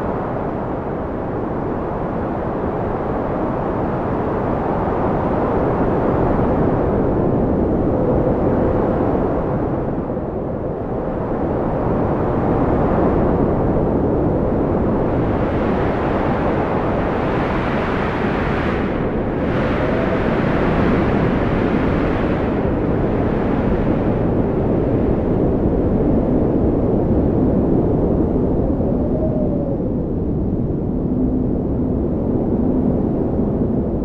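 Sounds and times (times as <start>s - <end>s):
strong wind blowing: 0.0s - 34.0s.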